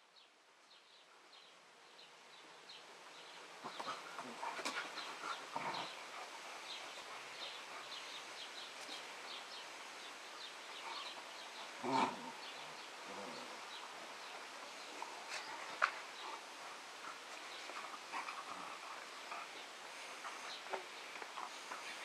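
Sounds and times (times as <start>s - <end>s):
puppies play-wrestling: 3.6s - 22.0s.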